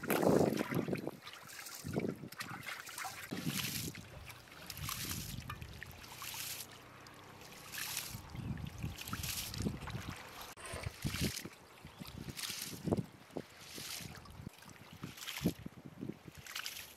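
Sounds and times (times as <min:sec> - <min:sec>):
hands splashing in water: 0:00.0 - 0:15.7, 0:16.3 - 0:16.9.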